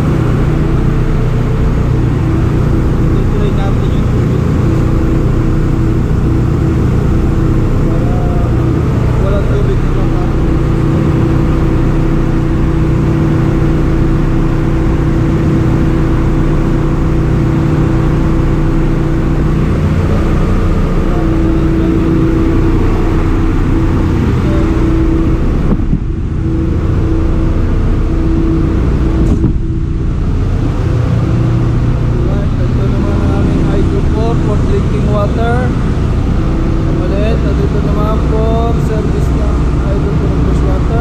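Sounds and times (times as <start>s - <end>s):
engine room machinery drone: 0.0s - 41.0s.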